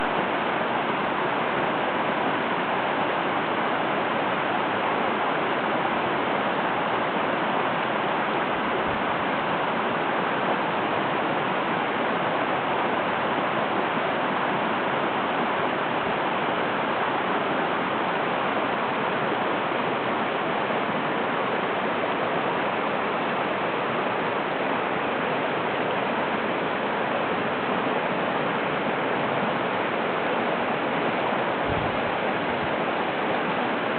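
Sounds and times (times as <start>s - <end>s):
river flowing over rocks: 0.0s - 33.9s.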